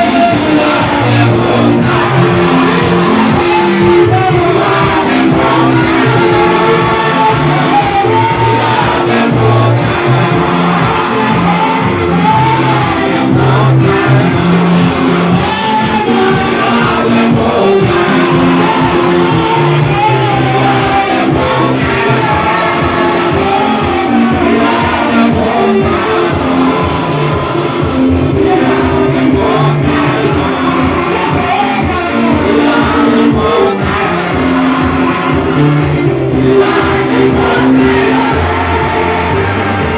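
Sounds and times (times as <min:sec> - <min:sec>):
congregation shouting: 0:00.0 - 0:39.9
instruments holding chords: 0:00.0 - 0:39.9
person singing melody: 0:00.0 - 0:39.9.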